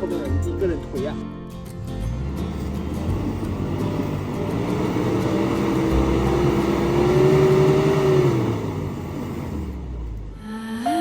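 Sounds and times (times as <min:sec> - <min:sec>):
van engine revving: 0:01.6 - 0:10.9.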